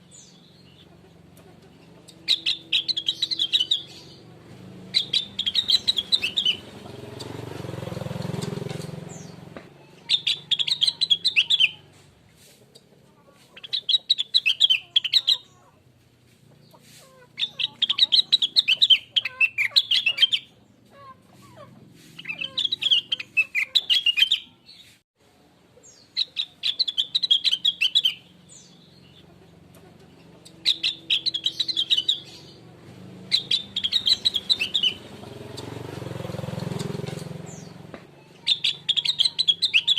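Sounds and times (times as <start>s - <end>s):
bird chirping rapidly: 0.0s - 11.9s, 13.5s - 15.7s, 16.6s - 25.0s, 25.8s - 39.9s.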